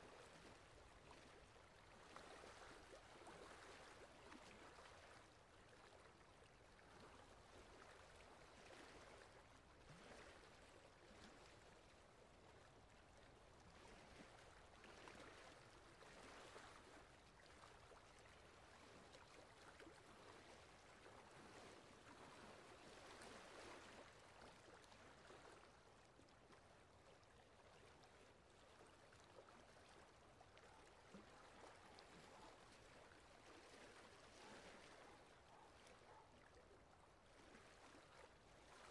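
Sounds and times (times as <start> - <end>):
water lapping against boat hull: 0.0 - 38.9.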